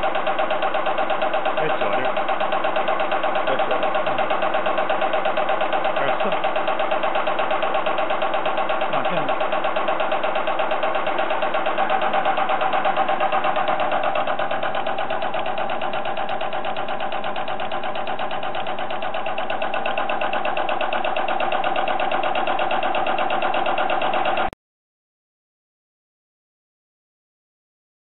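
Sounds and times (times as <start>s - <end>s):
test bench machine humming: 0.0s - 24.6s.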